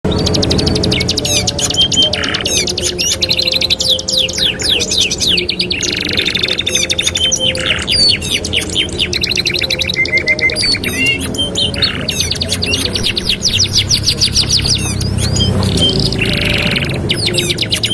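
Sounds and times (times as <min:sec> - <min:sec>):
canaries singing trills: 0:00.1 - 0:17.9.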